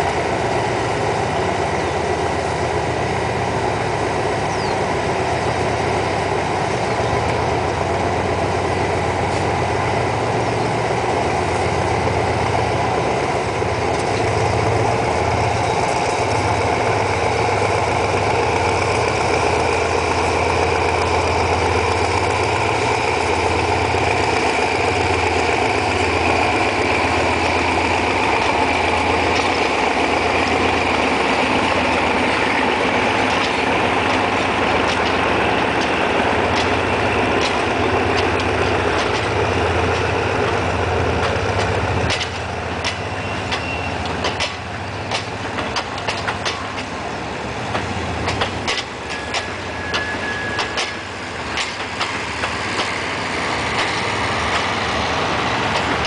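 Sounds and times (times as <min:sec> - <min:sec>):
diesel locomotive drone: 0:00.0 - 0:56.0
train wheels clicking: 0:00.0 - 0:56.0.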